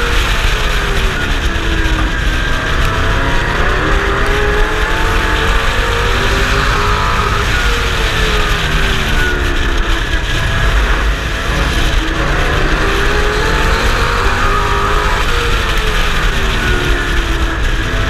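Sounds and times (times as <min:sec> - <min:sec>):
race truck engine running hard: 0:00.0 - 0:18.0
wind and road noise: 0:00.0 - 0:18.0.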